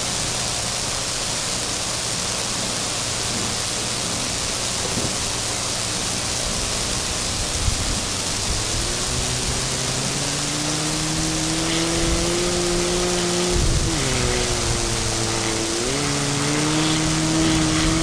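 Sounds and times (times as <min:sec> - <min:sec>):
distant snow buggy engine: 0:00.0 - 0:18.0
steady hiss: 0:00.0 - 0:18.0.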